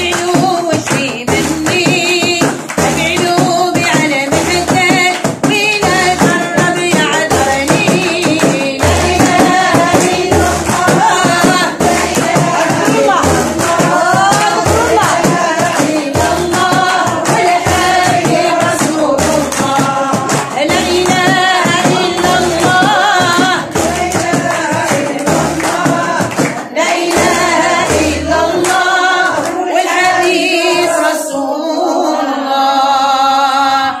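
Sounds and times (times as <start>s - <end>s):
frame drums beating: 0.0s - 31.2s
women singing a devotional chant: 0.0s - 34.0s.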